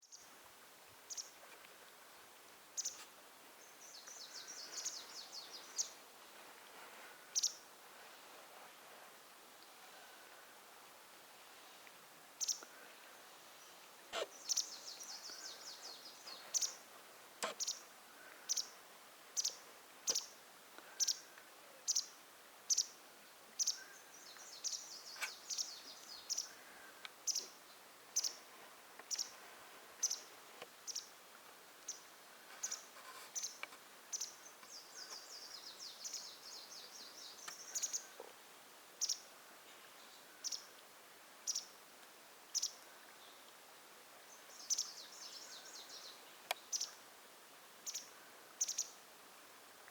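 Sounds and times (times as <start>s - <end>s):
songbird chirping: 0.0s - 0.4s, 1.0s - 8.2s, 11.5s - 49.9s.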